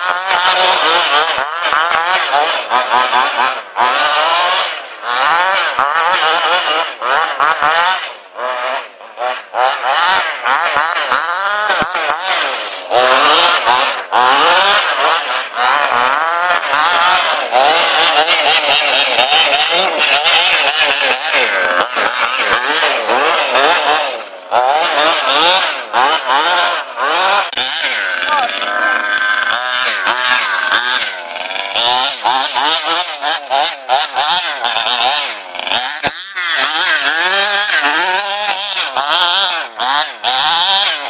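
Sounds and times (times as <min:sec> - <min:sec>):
model car engine revving: 0:00.0 - 0:41.0.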